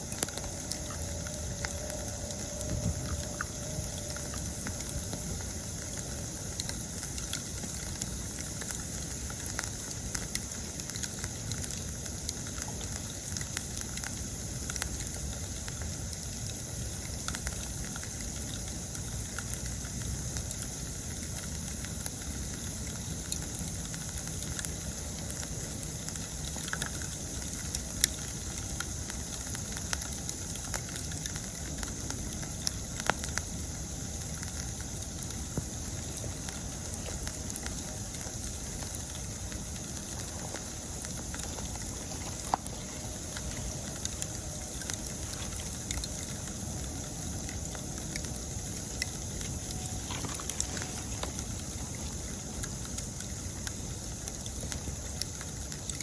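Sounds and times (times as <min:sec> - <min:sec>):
campfire crackling: 0:00.0 - 0:56.0
insects chirping: 0:00.0 - 0:56.0.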